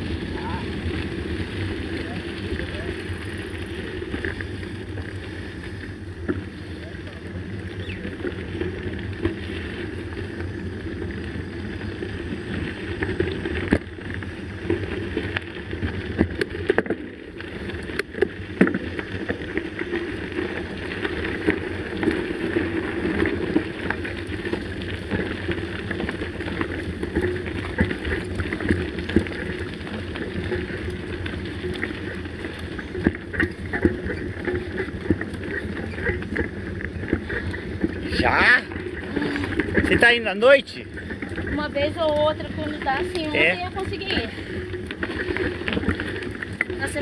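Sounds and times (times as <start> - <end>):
bike frame rattling: 0.0 - 47.0
bike tyres rumbling on gravel: 0.0 - 47.0.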